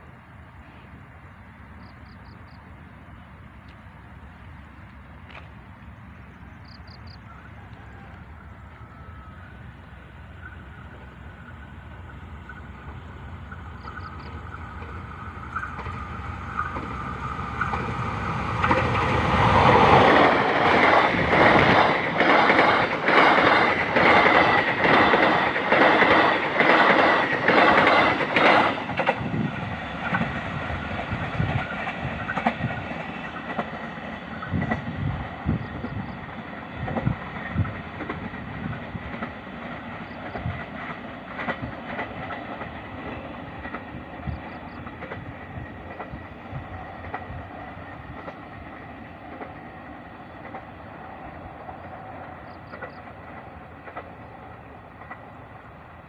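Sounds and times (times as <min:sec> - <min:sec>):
train passing: 0:00.0 - 0:56.0
train wheels clacking on rails: 0:06.7 - 0:56.0.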